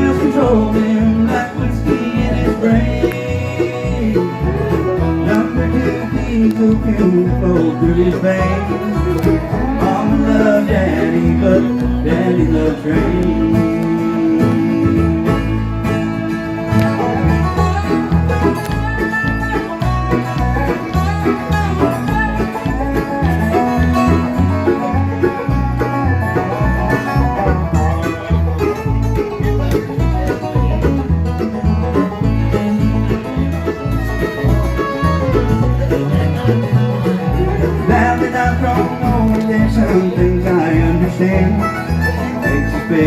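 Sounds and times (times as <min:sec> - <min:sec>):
plucked string picking: 0:00.0 - 0:43.0
steady bass line: 0:00.0 - 0:43.0.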